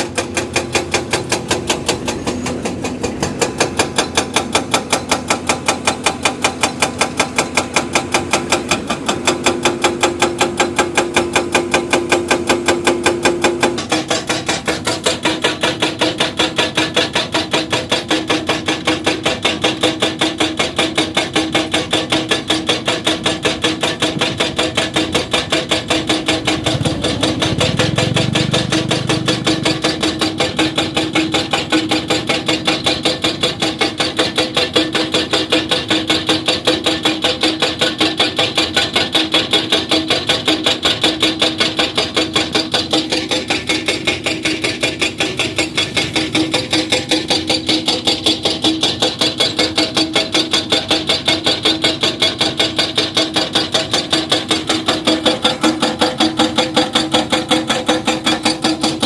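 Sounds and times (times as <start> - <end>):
excavator engine hum: 0.0 - 59.0
hydraulic rock breaker hammering: 0.0 - 59.0.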